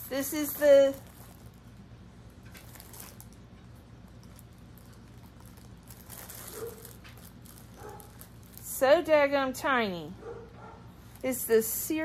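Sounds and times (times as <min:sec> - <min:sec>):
steady low hum: 0:00.0 - 0:12.0
plastic bags and cardboard rustling: 0:00.1 - 0:09.5, 0:10.6 - 0:12.0.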